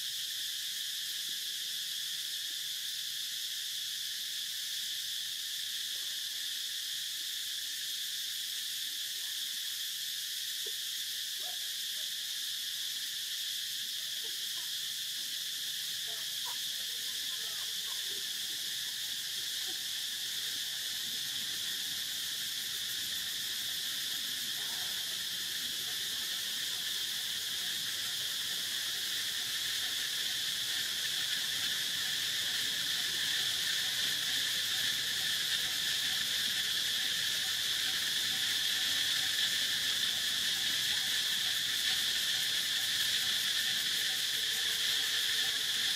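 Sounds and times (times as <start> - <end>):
forest insects shrill drone: 0.0 - 45.9.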